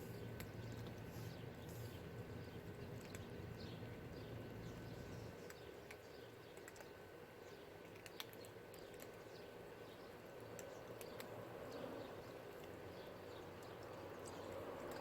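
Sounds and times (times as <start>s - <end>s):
cats crunching dry kibble: 0.0s - 15.0s.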